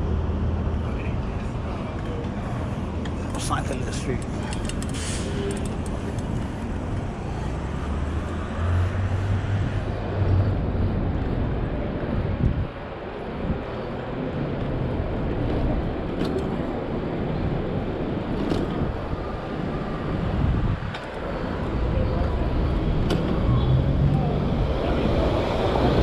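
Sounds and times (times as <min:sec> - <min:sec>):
street traffic: 0:00.0 - 0:26.0
wind rushing over microphone: 0:04.0 - 0:26.0.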